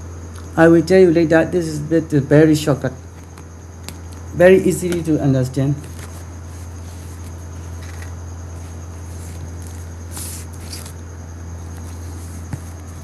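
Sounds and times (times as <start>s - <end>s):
faint high whine: 0.0s - 13.0s
low electrical hum: 0.0s - 13.0s.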